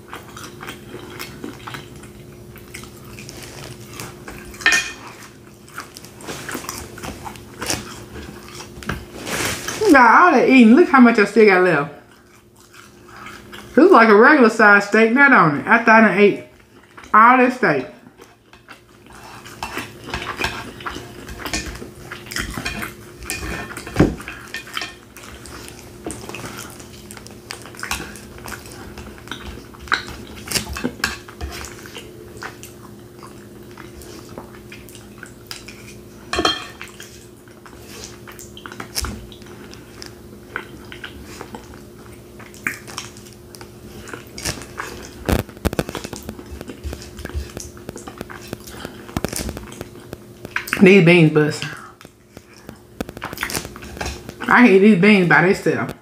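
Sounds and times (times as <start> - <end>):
chewing: 0.0 - 9.8, 12.0 - 13.8, 16.5 - 17.1, 18.0 - 50.9, 51.6 - 54.5.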